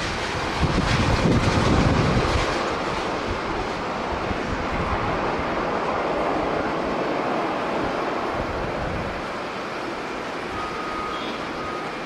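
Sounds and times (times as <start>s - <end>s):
wind buffeting microphone: 0.0s - 10.6s
jet engines roaring: 0.0s - 12.0s.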